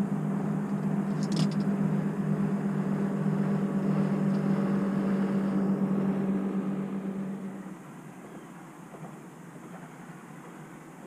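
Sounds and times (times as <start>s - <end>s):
boat motor humming: 0.0s - 9.2s.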